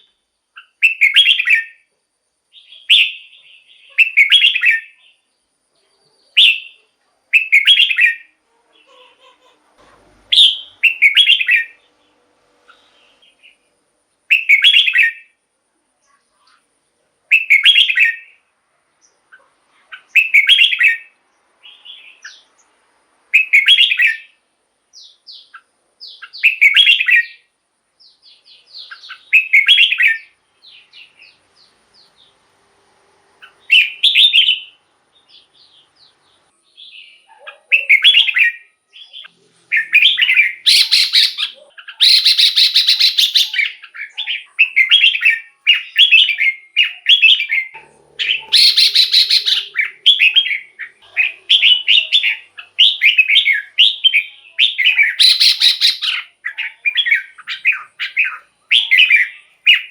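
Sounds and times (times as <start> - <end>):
bird singing warbled phrases: 0.0 - 32.4, 33.4 - 59.9.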